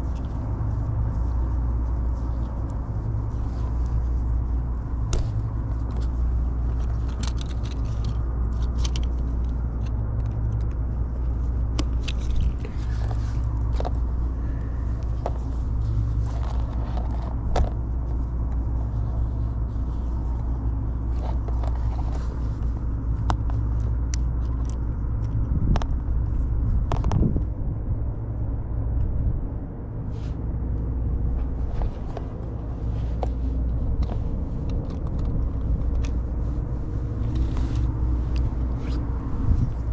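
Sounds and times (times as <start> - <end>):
low mechanical rumble: 0.0 - 39.9.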